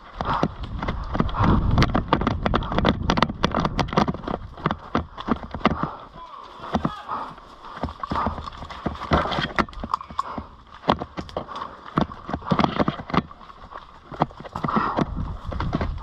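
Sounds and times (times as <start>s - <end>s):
irregular footsteps: 0.0s - 16.0s.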